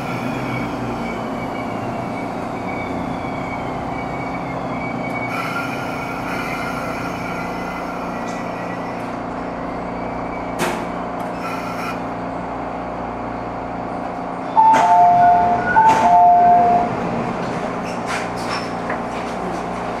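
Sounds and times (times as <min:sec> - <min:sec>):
train car running noise: 0:00.0 - 0:20.0.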